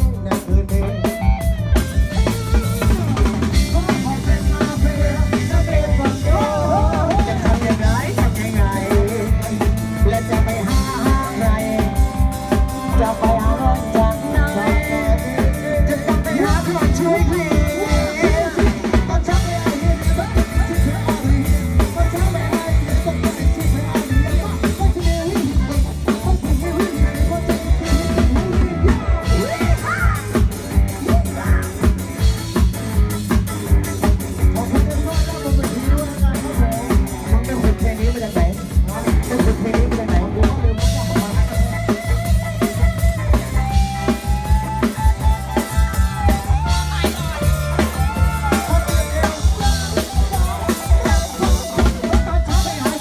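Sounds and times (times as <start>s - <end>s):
bass: 0.0s - 53.0s
fast drum kit beat: 0.0s - 53.0s
person singing: 0.0s - 53.0s.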